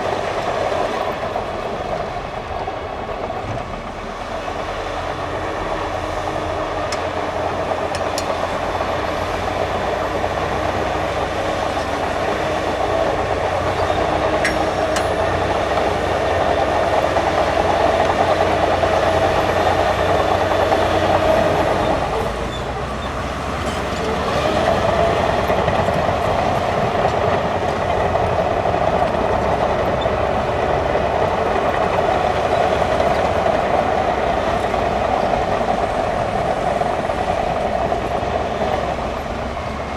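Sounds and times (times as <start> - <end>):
bulldozer diesel engine: 0.0 - 39.9
tracks clattering: 0.0 - 39.9.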